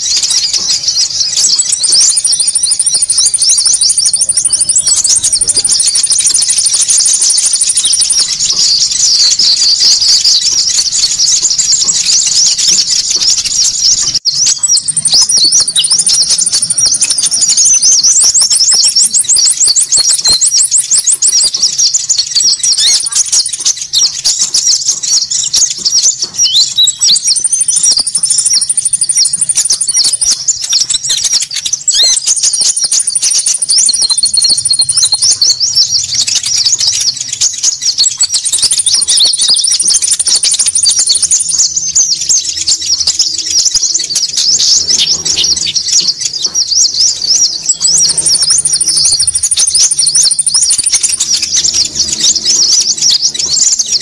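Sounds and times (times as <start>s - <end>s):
rapid high bird chirps: 0.0s - 54.0s
shrill bird trills: 0.0s - 54.0s.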